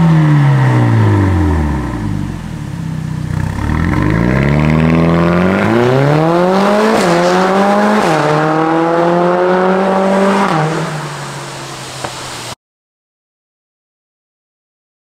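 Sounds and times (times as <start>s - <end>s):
car engine accelerating hard: 0.0s - 12.2s.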